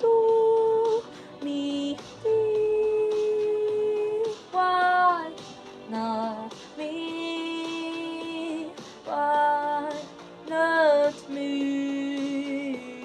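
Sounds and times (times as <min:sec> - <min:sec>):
woman singing long held notes: 0:00.0 - 0:13.0.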